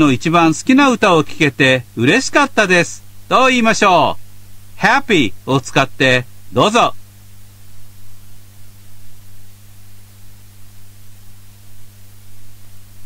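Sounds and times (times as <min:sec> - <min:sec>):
background hiss: 0:00.0 - 0:13.0
steady low hum: 0:00.0 - 0:13.0.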